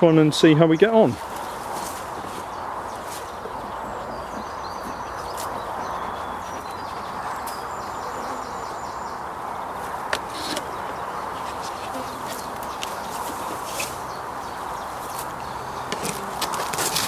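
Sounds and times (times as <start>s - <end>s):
birds singing trills: 0.0s - 17.0s.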